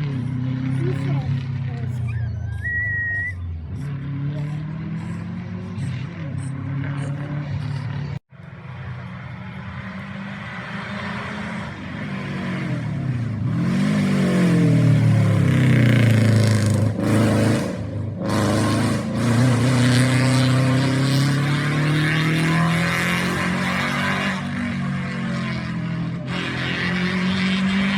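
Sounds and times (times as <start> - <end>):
rally car engine revving: 0.0 - 2.1, 3.6 - 27.9.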